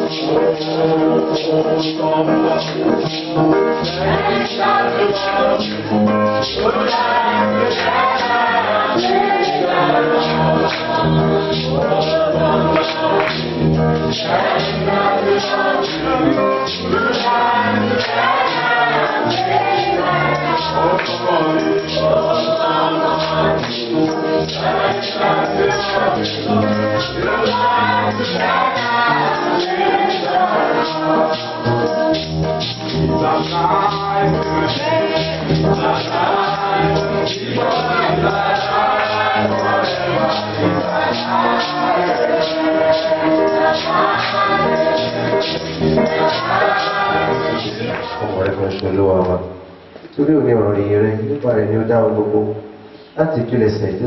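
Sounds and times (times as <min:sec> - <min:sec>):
tambourine and shaker percussion: 0:00.0 - 0:48.4
choir singing gospel song: 0:00.0 - 0:48.9.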